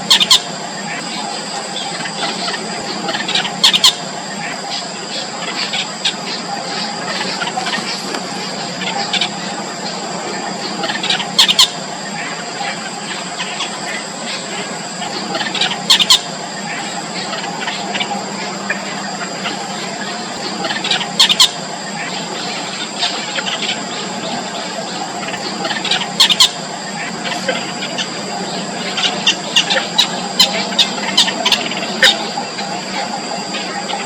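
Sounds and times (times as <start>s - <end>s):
bird nestlings squealing: 0.0s - 34.0s.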